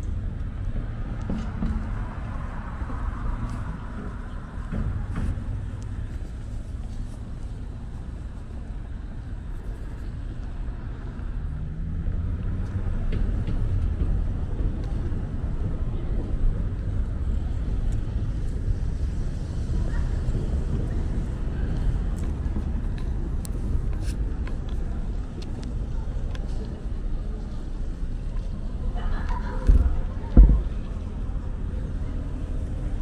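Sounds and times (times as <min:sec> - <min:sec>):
city street traffic rumble: 0:00.0 - 0:33.0.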